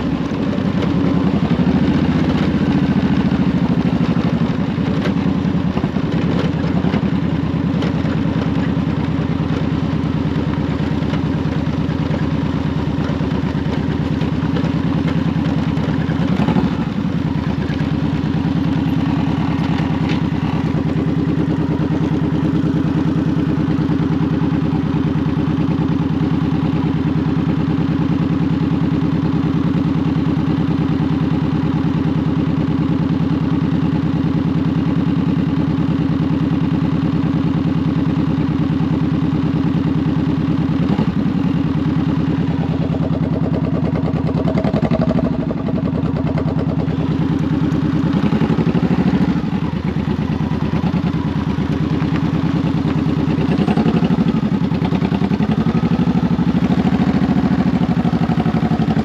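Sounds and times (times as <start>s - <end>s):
motorcycle engine idling and pulling away: 0.0s - 59.0s.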